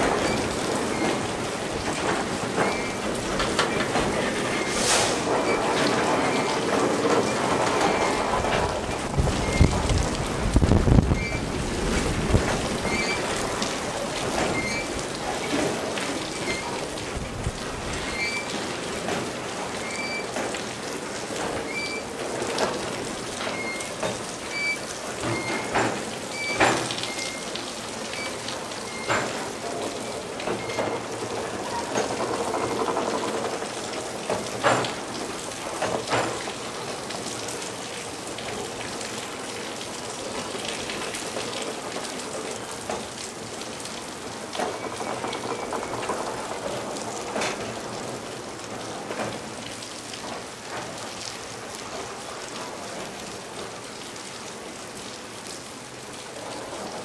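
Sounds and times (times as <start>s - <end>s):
freight train rolling: 0.0s - 57.0s
steady rain with drips: 0.0s - 57.0s.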